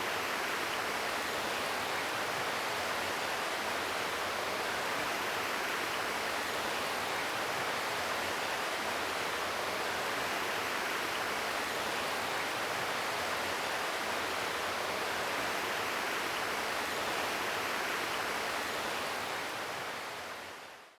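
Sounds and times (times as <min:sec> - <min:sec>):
flowing water rushing: 0:00.0 - 0:20.8.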